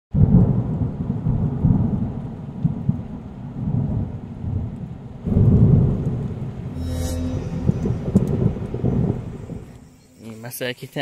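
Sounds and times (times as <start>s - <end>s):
thunder rumbling: 0.2s - 6.8s, 7.4s - 9.9s.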